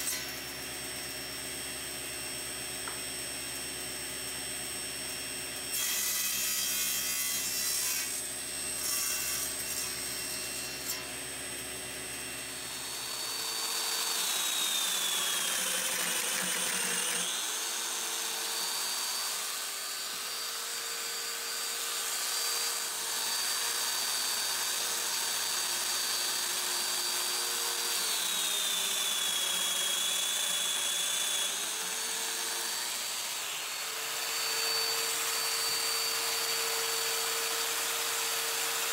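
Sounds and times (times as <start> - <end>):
table saw cutting wood: 0.0 - 38.9.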